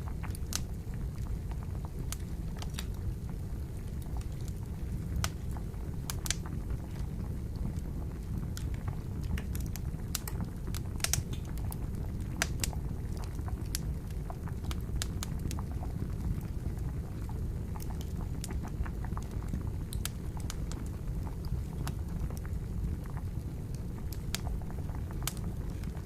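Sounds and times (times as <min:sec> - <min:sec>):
campfire crackling and popping: 0:00.0 - 0:26.0
water boiling: 0:00.0 - 0:26.0.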